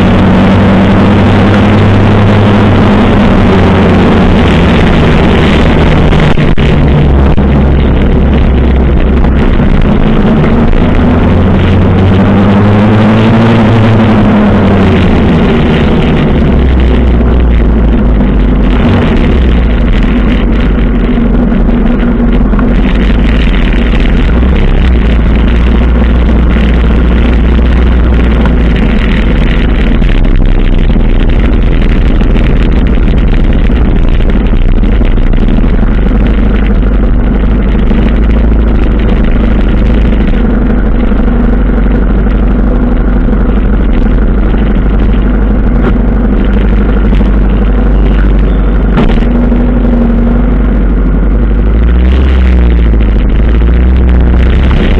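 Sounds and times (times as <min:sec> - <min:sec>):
motorcycle engine running: 0:00.0 - 0:54.9
other motorcycles: 0:00.0 - 0:54.9.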